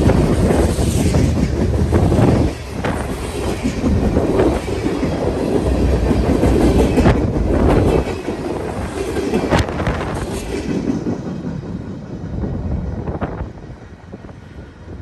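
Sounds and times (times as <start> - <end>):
train wheels clacking: 0.0 - 14.1
train wheels rumbling on rails: 0.0 - 15.0.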